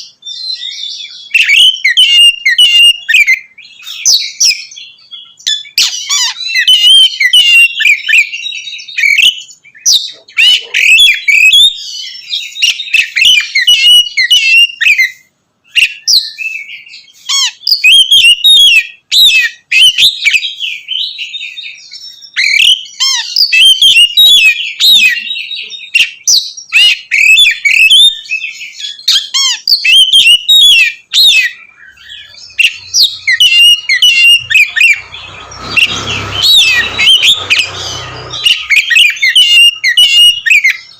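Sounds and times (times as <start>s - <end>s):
bird singing whistled chattering song: 0.0s - 40.9s.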